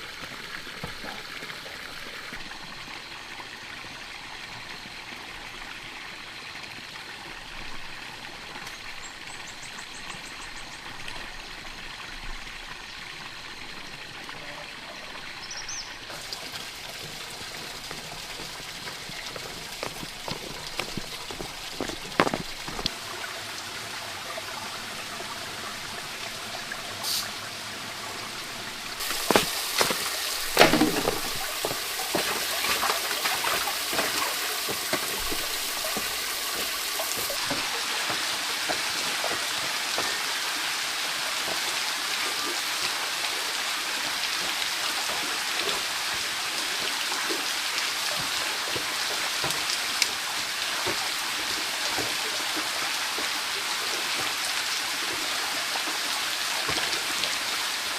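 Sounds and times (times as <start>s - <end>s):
rain and running water: 0.0s - 57.9s.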